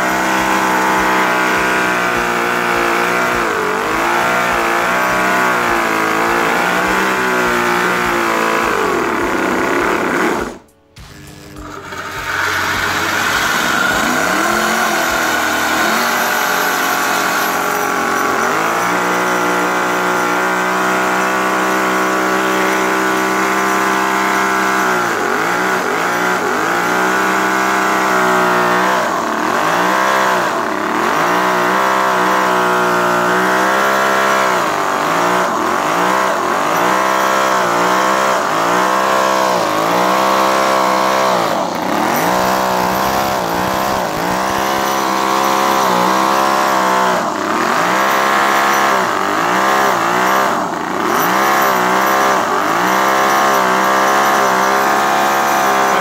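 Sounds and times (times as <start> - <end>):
model engine revving: 0.0 - 56.0.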